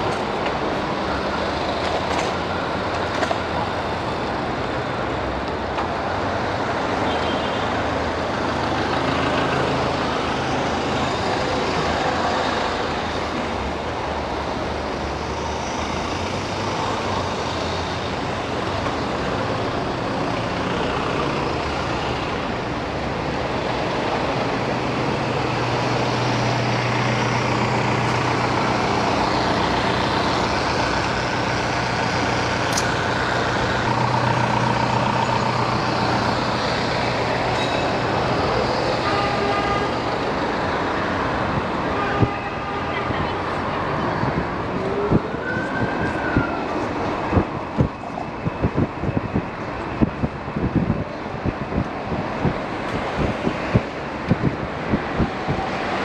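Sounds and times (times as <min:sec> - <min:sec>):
heavy vehicle engine hum: 0:00.0 - 0:56.0
road traffic: 0:00.0 - 0:56.0.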